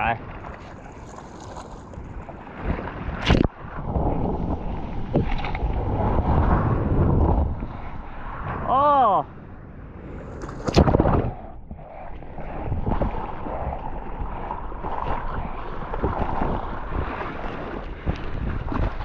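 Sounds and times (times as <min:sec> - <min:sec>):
ocean surf and rushing water: 0:00.0 - 0:19.0
wind buffeting microphone: 0:00.0 - 0:19.0.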